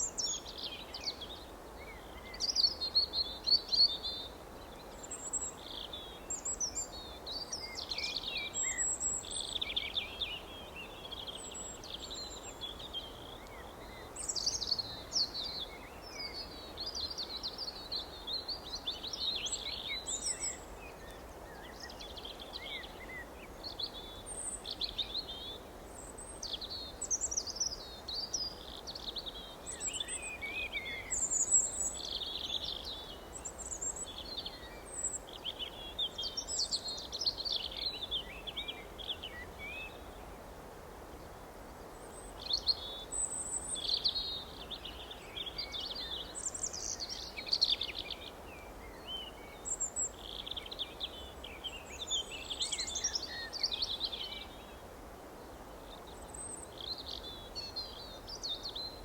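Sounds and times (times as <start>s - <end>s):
steady background hiss: 0.0s - 59.0s.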